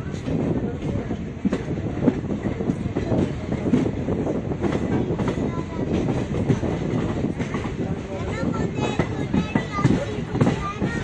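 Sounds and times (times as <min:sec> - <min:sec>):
train rumbling on track: 0:00.0 - 0:11.0
wheels clacking over rail joints: 0:00.0 - 0:11.0.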